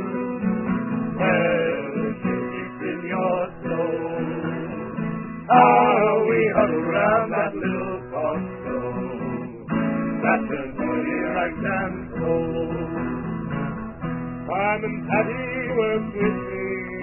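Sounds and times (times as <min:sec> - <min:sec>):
men singing a folk song: 0:00.0 - 0:13.4, 0:14.4 - 0:17.0
strummed acoustic guitar: 0:00.0 - 0:17.0.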